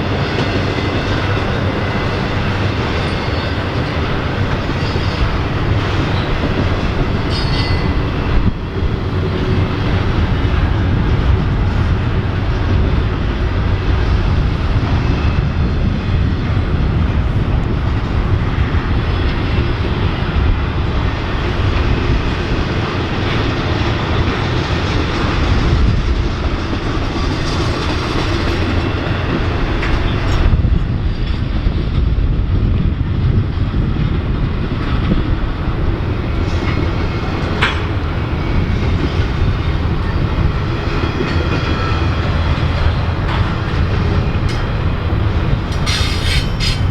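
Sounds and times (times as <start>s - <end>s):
freight train wheels on rails: 0.0s - 46.9s.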